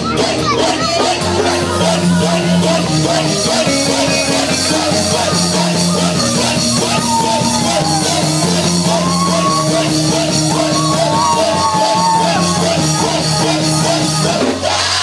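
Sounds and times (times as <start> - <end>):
band playing upbeat praise music: 0.0 - 15.0
voices singing: 0.0 - 15.0.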